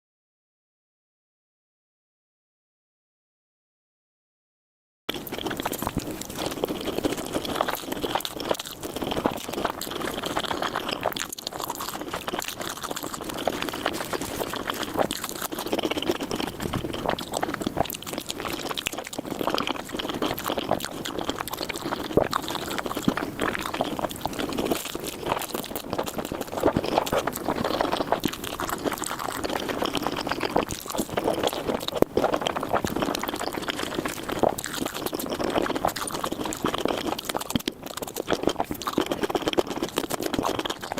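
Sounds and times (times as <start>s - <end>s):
chewing and slurping noodles: 5.1s - 40.9s.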